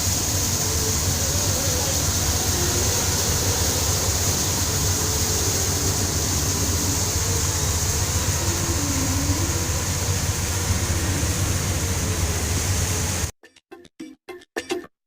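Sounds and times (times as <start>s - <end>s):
ship machinery drone: 0.0s - 13.3s.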